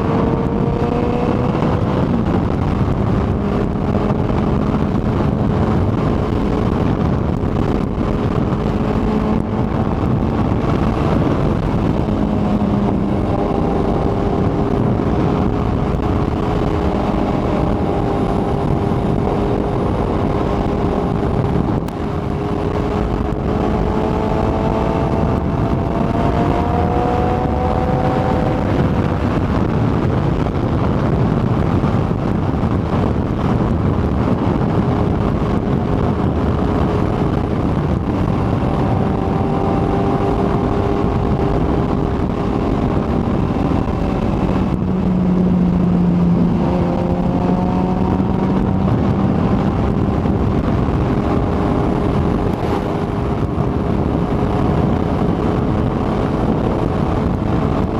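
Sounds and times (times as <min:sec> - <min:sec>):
motorcycle engine cruising: 0:00.0 - 0:57.9
wind and road rush: 0:00.0 - 0:57.9.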